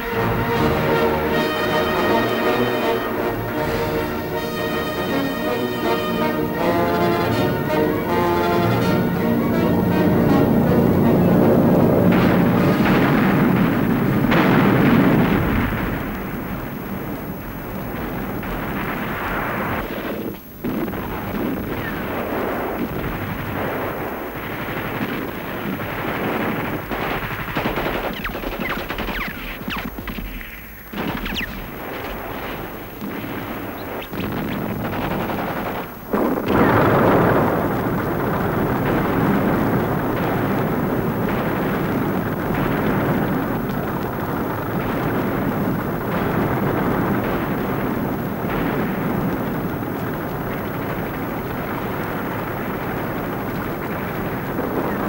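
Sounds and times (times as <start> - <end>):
rapid machine-gun fire: 0.0 - 55.0.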